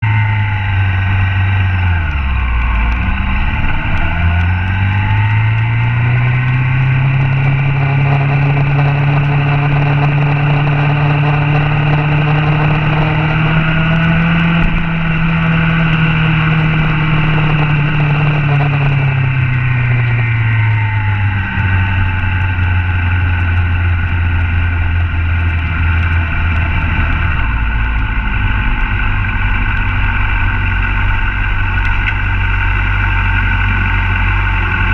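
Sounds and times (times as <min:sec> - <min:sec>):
motorcycle engine at speed: 0:00.0 - 0:34.9.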